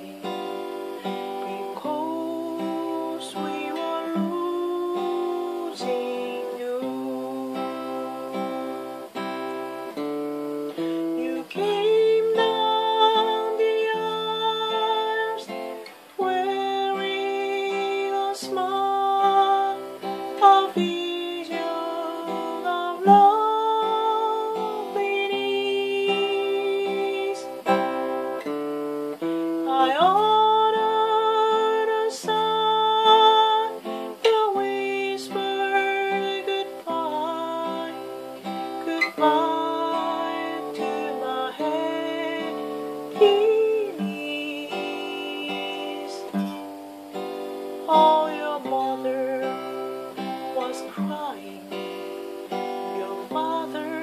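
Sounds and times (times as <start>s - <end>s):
acoustic guitar picking: 0.0s - 54.0s
person singing long notes: 0.0s - 54.0s.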